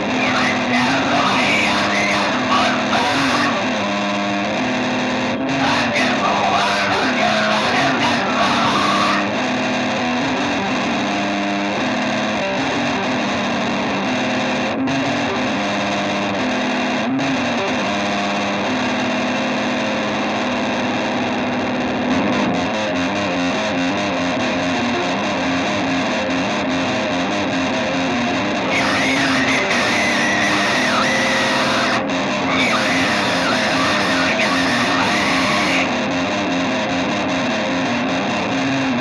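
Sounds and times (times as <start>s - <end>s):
distorted electric guitar music: 0.0s - 39.0s.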